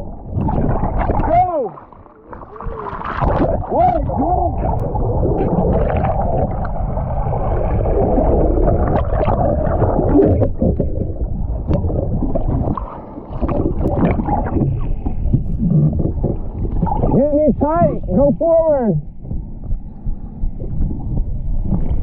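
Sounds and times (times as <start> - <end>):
water rushing and splashing: 0.0 - 18.6
motorboat engine rumble: 0.0 - 22.0.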